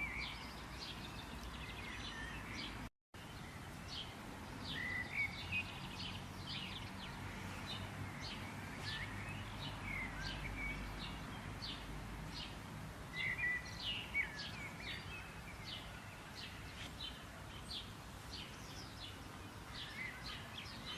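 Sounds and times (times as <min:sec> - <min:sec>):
songbirds chirping: 0:00.0 - 0:20.9
outdoor hiss: 0:03.2 - 0:20.9.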